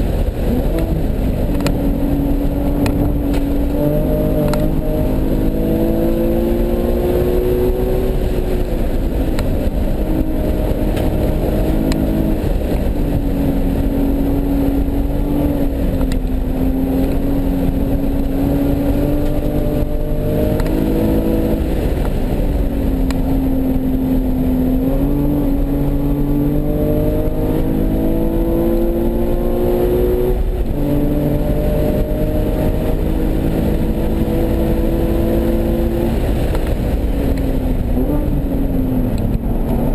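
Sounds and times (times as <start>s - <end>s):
car engine pulling hard: 0.0s - 39.9s
road and wind noise: 0.0s - 39.9s.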